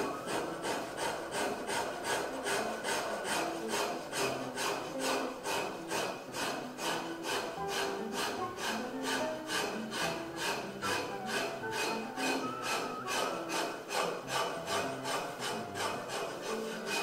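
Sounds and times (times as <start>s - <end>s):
faint background music: 0.0s - 17.0s
hand file rasping wood: 0.0s - 17.0s.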